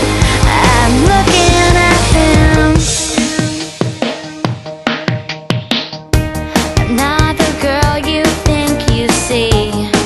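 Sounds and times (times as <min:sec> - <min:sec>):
song with drums and bass: 0:00.0 - 0:10.0.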